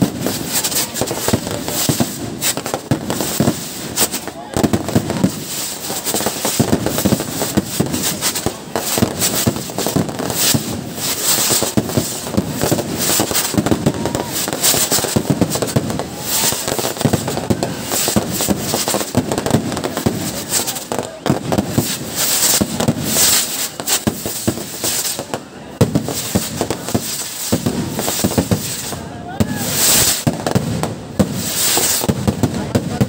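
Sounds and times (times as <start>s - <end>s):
fireworks and firecrackers banging: 0.0s - 33.0s.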